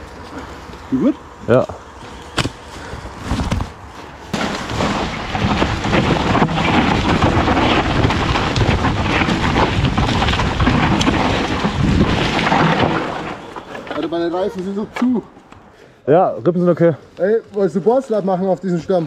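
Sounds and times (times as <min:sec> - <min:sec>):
bike rattling over trail: 0:00.0 - 0:15.3.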